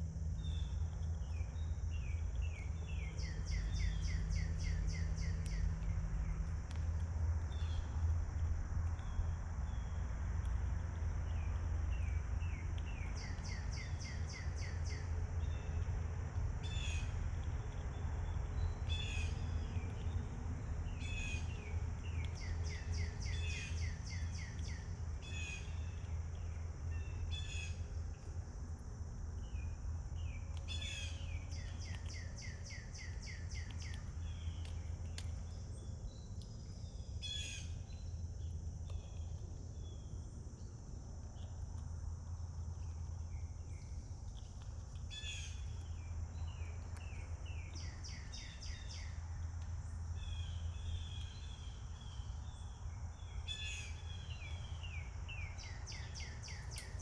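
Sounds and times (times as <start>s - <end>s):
steady low rumble: 0.0s - 55.9s
constant high hiss: 0.0s - 57.0s
songbird singing: 0.0s - 57.0s.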